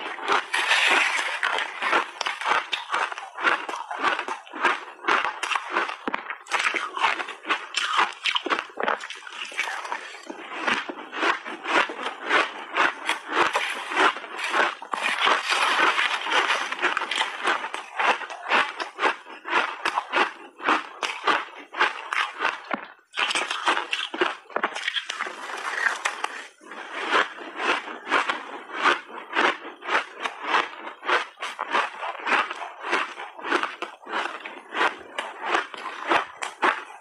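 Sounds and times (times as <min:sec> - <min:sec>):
ice crunching as it is chewed: 0:00.0 - 0:37.0.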